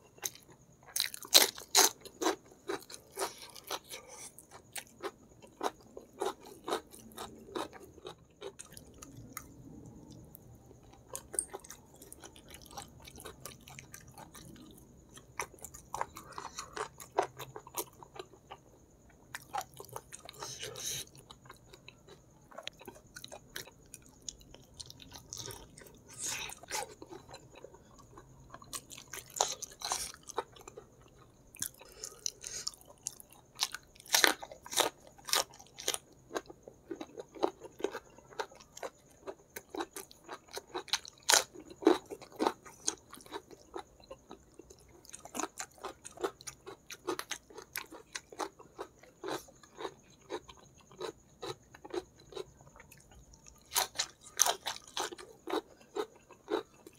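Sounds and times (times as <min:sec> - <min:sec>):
wet chewing and crunching: 0:00.2 - 0:56.9.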